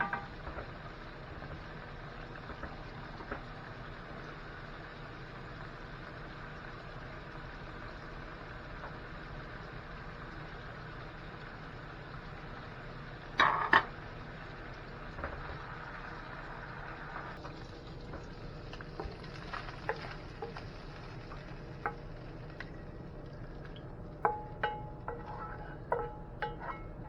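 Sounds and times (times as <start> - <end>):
background hum and hiss: 0.0 - 27.0.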